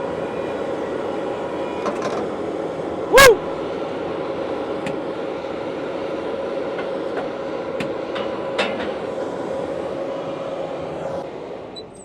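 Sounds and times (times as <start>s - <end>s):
heavy equipment engine running: 0.0s - 12.0s
steady whine: 0.0s - 12.0s.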